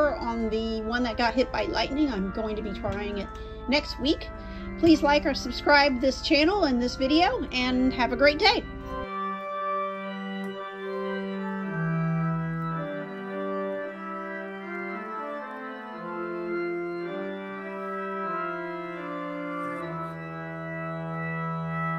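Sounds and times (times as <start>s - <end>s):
deep organ bass note: 0.0s - 21.9s
pipe organ chords: 0.0s - 21.9s.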